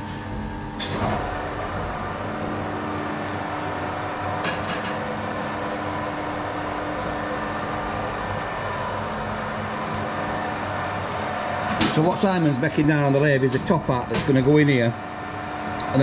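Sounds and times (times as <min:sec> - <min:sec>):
metal lathe motor hum: 0:00.0 - 0:16.0.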